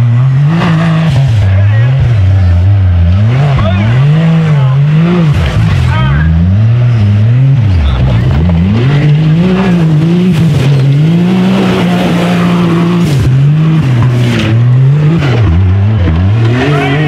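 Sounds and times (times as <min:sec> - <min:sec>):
buggy engine revving hard: 0:00.0 - 0:17.0.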